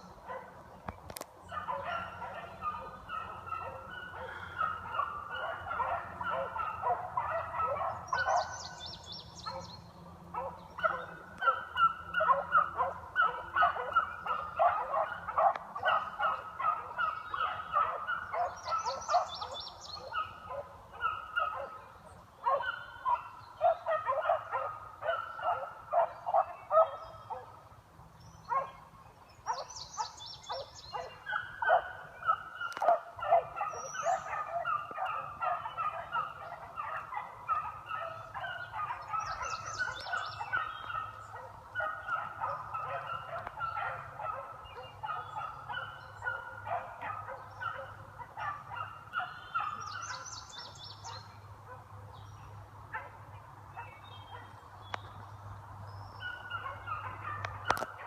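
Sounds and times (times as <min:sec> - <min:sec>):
beagles baying: 0:01.5 - 0:09.7, 0:10.3 - 0:27.6, 0:29.4 - 0:53.2, 0:56.2 - 0:58.0.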